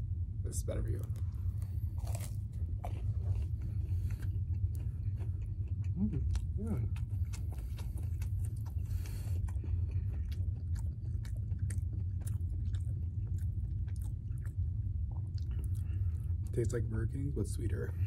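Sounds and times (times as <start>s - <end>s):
steady low hum: 0.0s - 18.0s
chewing and biting food: 0.8s - 18.0s.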